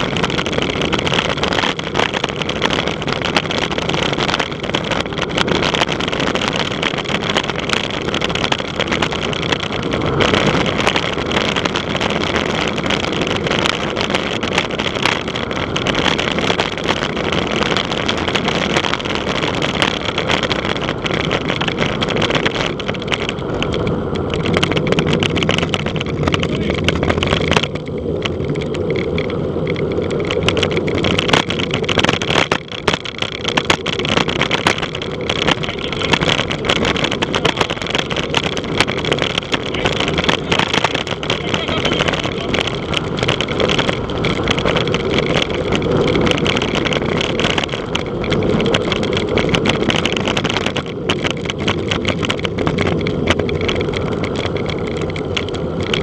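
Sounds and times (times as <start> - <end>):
tyre and road rumble: 0.0 - 56.0
wind buffeting microphone: 0.0 - 56.0.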